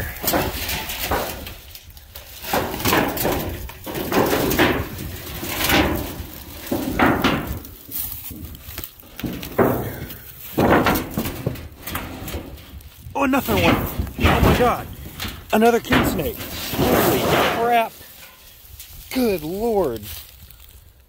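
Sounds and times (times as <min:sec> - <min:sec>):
sheet metal rattling and clunking: 0:00.0 - 0:19.1
dry grass and leaves rustling: 0:00.0 - 0:21.0.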